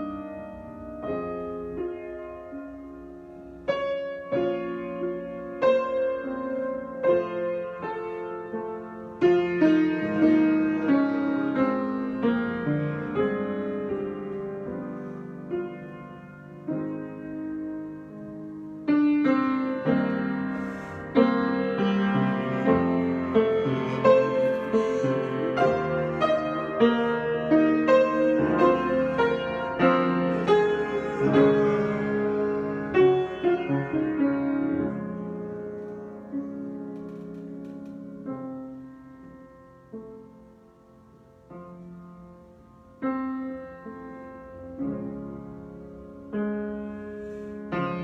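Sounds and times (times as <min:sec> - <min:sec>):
improvised piano music: 0:00.0 - 0:48.0.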